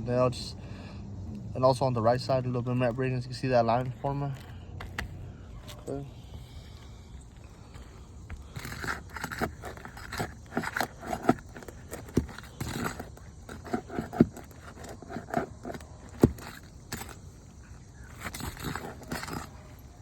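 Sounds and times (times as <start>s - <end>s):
tool scraping asphalt shingles: 2.0s - 20.0s.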